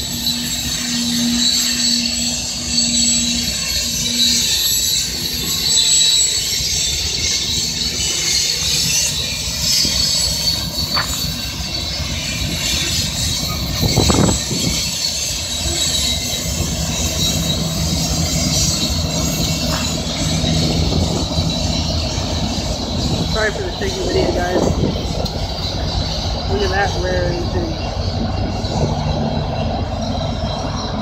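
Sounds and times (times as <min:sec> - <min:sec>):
diesel locomotive engine hum: 0:00.0 - 0:31.0
train clickety-clack: 0:00.0 - 0:31.0
train wheels squealing: 0:00.0 - 0:31.0.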